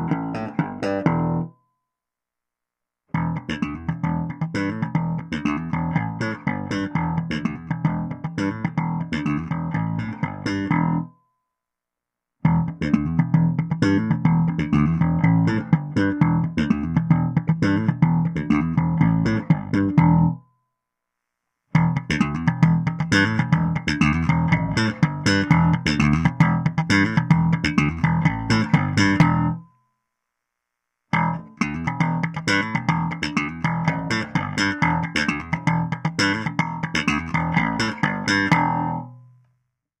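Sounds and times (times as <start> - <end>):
electric bass picked notes: 0.0 - 1.6, 3.1 - 11.1, 12.4 - 20.4, 21.7 - 29.7, 31.1 - 39.4.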